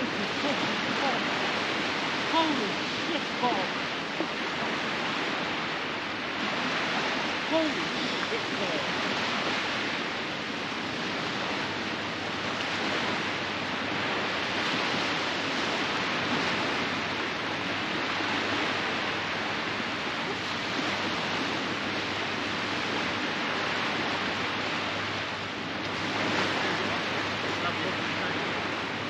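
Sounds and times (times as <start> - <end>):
sea surf washing onto beach: 0.0 - 29.0.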